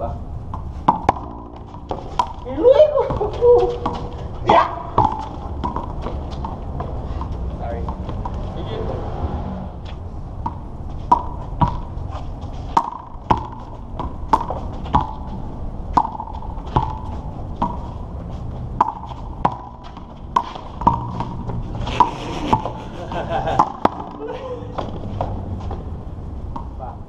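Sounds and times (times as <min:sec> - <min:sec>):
handball slapping and bouncing: 0:00.5 - 0:08.4, 0:10.4 - 0:17.9, 0:18.7 - 0:25.8.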